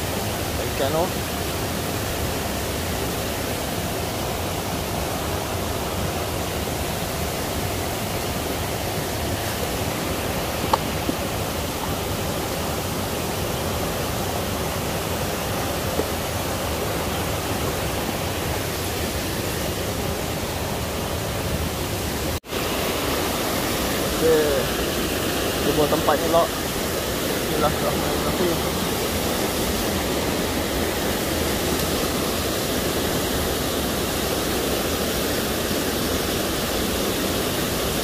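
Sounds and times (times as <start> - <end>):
stream flowing over stones: 0.0 - 38.0.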